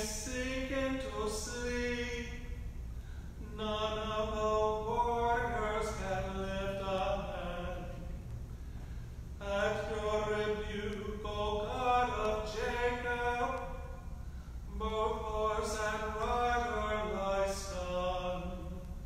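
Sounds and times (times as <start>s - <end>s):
unaccompanied plainsong chant: 0.0s - 2.6s, 3.4s - 8.2s, 9.4s - 19.0s.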